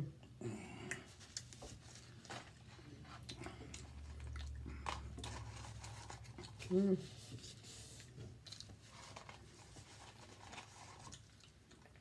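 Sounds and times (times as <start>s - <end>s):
person chewing food: 0.8s - 6.7s, 7.8s - 12.0s.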